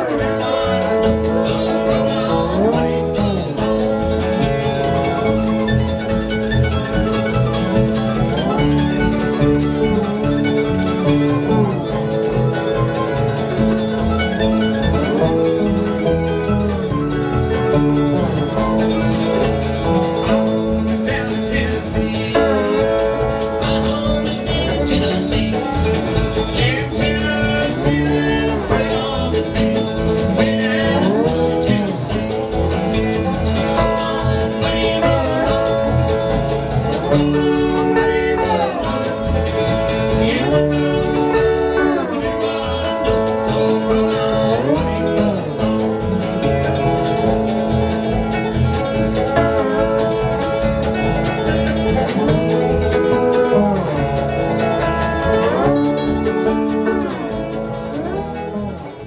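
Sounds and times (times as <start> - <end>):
slide lap steel guitar: 0.0 - 59.0.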